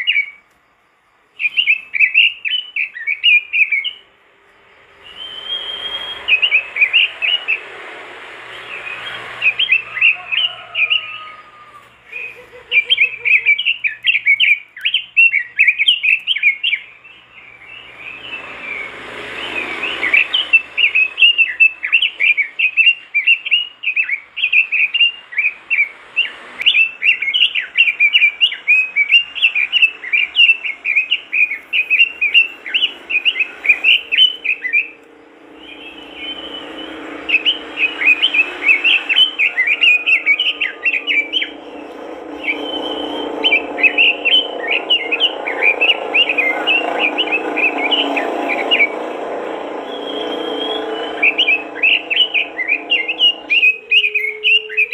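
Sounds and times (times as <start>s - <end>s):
bird singing high warbling chirps: 0.0s - 54.9s.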